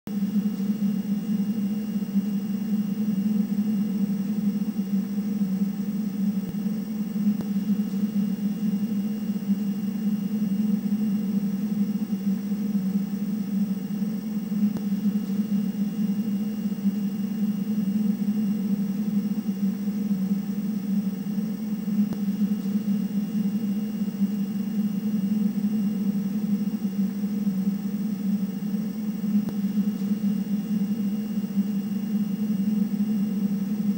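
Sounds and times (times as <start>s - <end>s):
low hum: 0.1s - 33.9s.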